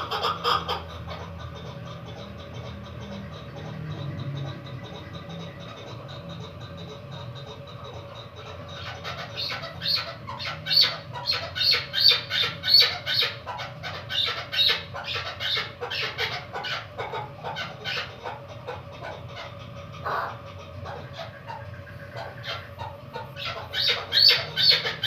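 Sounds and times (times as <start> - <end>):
partridge calling chuk notes: 0.0 - 25.0.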